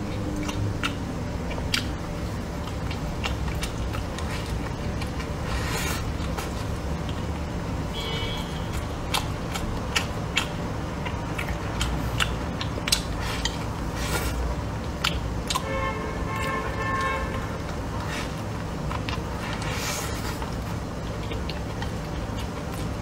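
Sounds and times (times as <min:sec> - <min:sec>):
chewing: 0:00.0 - 0:07.6, 0:08.7 - 0:23.0
steady low hum: 0:00.0 - 0:23.0.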